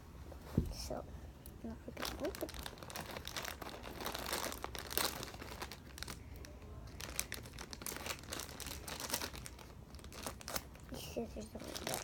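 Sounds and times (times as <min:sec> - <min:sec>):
plastic packaging crinkling: 0:01.8 - 0:12.0.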